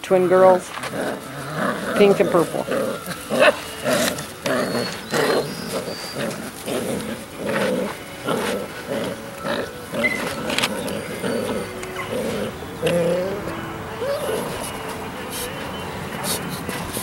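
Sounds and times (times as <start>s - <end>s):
puppies growling: 0.2s - 17.0s.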